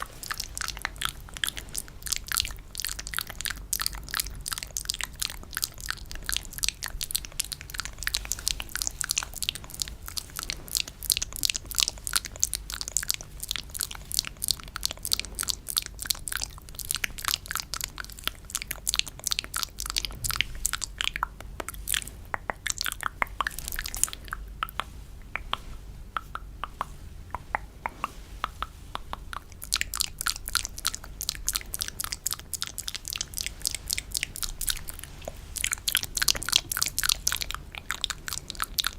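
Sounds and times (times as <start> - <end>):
wet mouth clicks and smacks: 0.0 - 38.9.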